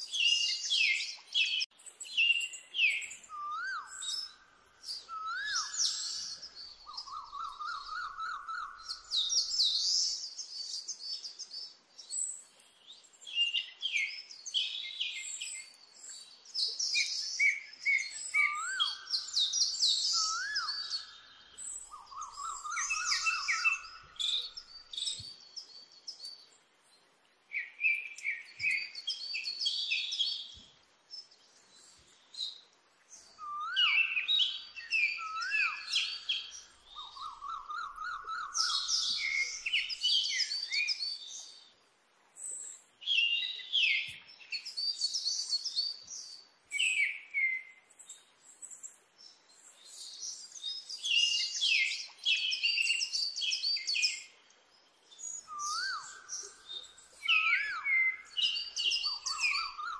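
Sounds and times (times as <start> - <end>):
birds chirping and singing: 0.0 - 26.5, 27.5 - 41.7, 42.4 - 54.3, 55.1 - 59.9.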